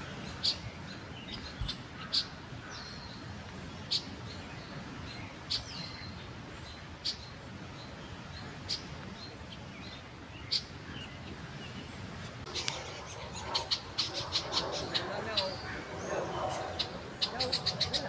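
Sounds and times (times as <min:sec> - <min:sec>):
songbird call notes: 0:00.0 - 0:18.0
steady background hiss: 0:00.0 - 0:18.0.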